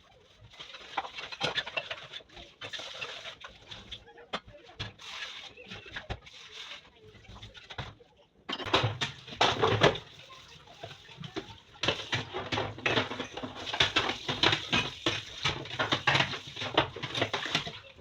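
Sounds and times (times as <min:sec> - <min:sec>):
kitchen cleaning clattering and scrubbing: 0:00.0 - 0:18.0.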